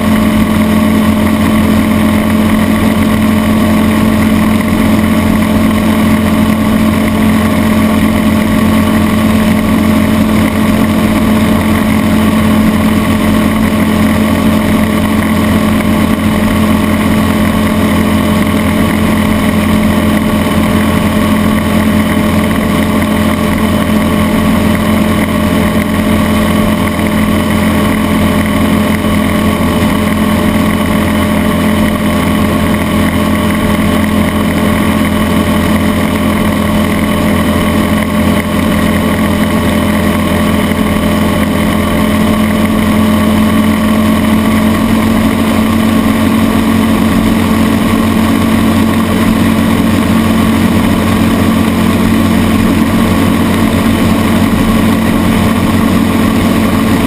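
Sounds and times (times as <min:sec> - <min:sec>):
outboard engine running at high speed: 0:00.0 - 0:57.0.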